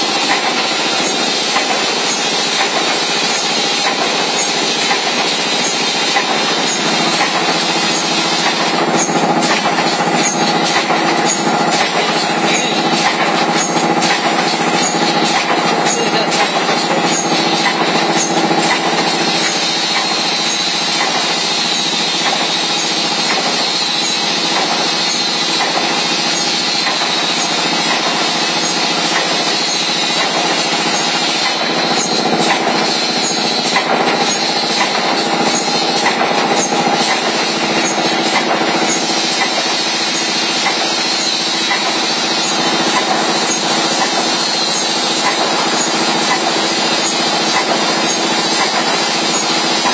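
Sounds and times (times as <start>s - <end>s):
welding machine running: 0.0s - 49.9s.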